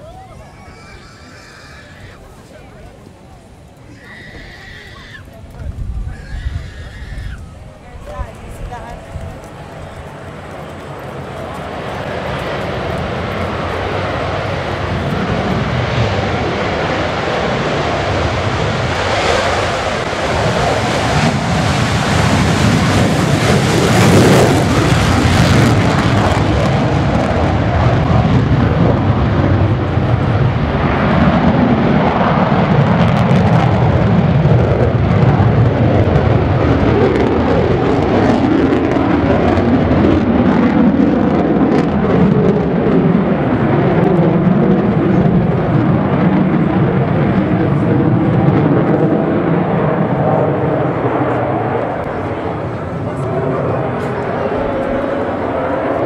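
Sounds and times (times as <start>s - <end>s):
jet roar taking off: 0.0s - 56.0s.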